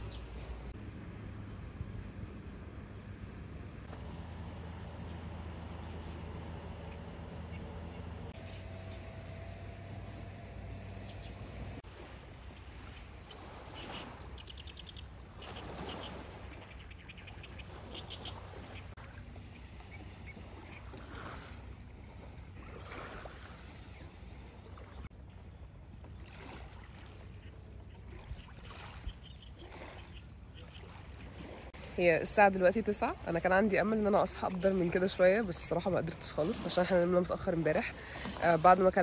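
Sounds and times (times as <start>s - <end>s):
small waves lapping at shore: 0.0s - 39.0s.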